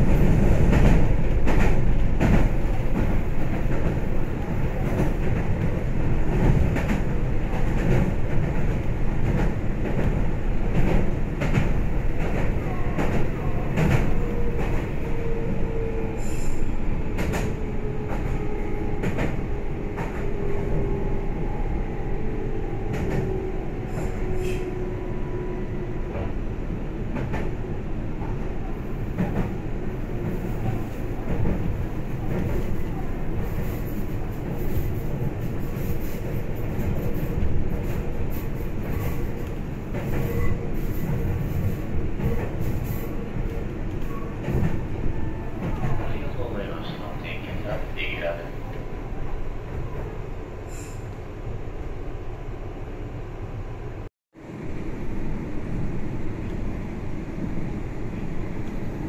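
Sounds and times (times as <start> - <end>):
train rumble from inside: 0.0 - 59.0.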